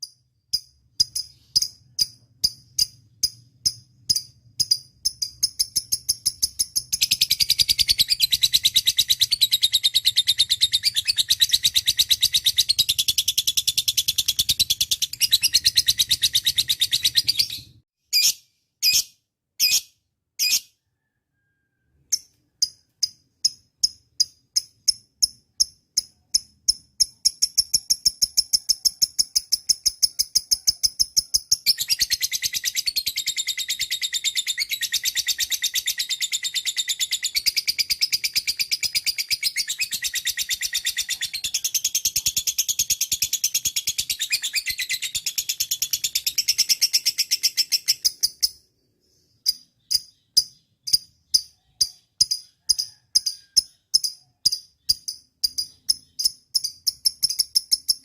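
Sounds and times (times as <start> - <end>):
lovebird chirping and trilling: 0.0 - 58.0.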